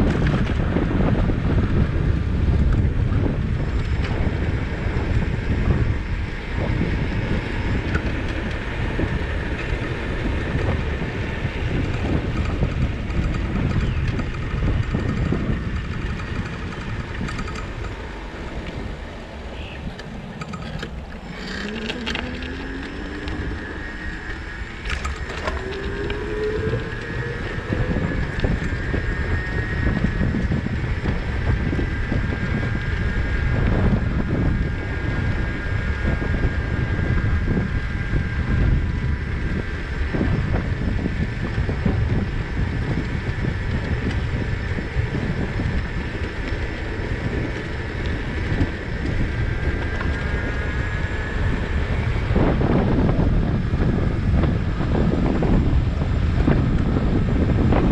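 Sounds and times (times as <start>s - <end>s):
rising whine: 0.0s - 57.9s
wind buffeting microphone: 0.0s - 57.9s.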